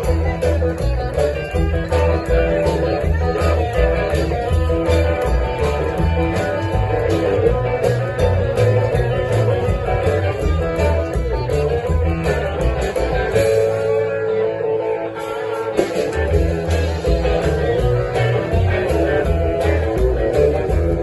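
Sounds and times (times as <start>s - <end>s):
electric guitar lead: 0.0s - 21.0s
live blues band: 0.0s - 21.0s
rhythmic bass line: 0.0s - 21.0s.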